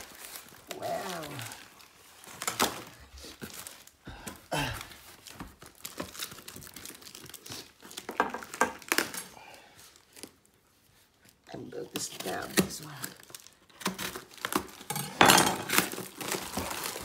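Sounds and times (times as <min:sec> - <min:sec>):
packaging wrap crinkling and tearing: 0:00.0 - 0:17.0.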